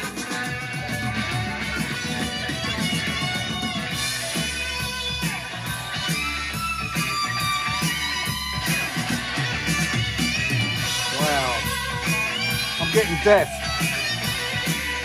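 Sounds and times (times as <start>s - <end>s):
guitar music over loudspeakers: 0.0s - 15.0s.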